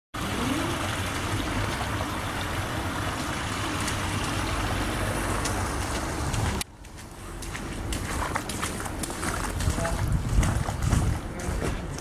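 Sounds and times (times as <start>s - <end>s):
water flowing into storm drain: 0.2s - 12.0s.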